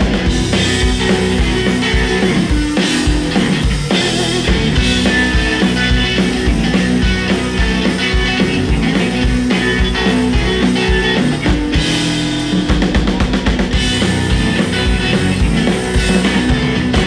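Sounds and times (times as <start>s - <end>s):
drum kit: 0.0s - 17.0s
electric guitars: 0.0s - 17.0s.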